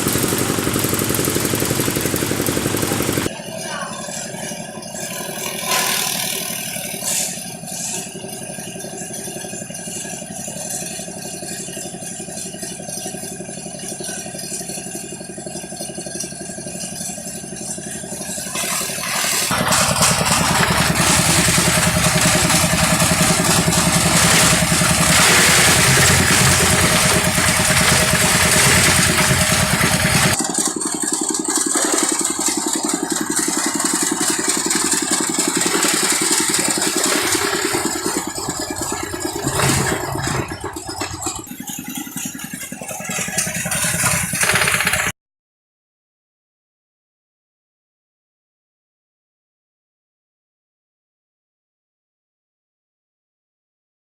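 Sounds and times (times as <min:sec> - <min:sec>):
engine-driven hammermill running: 0:00.0 - 0:45.1.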